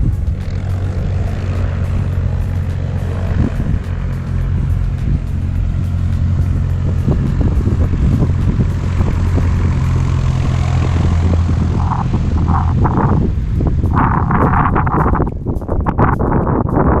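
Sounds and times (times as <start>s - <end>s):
propeller airplane engine drone: 0.0s - 17.0s.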